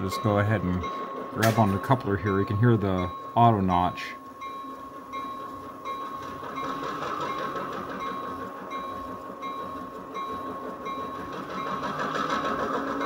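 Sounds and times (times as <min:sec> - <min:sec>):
diesel locomotive engine sound: 0:00.0 - 0:13.0
steady high whine: 0:00.0 - 0:13.0.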